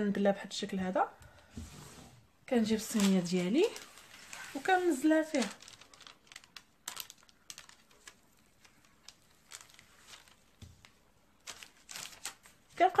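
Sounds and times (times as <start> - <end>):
paper and pastry rustling: 1.7 - 13.0.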